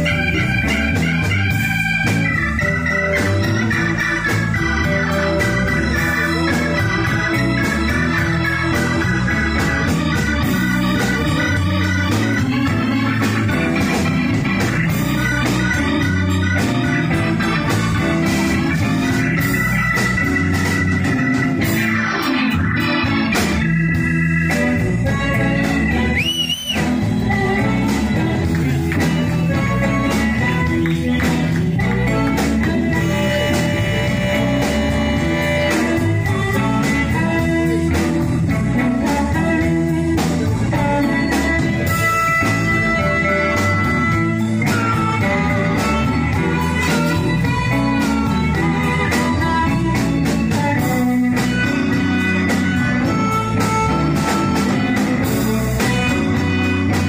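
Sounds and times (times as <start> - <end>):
blues band playing: 0.0 - 57.0
electric guitar: 0.0 - 57.0
organ: 0.0 - 57.0.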